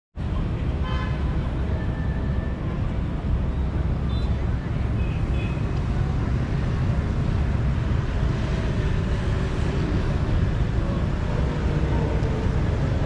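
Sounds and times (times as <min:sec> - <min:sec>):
moving vehicle rumble: 0:00.2 - 0:13.0.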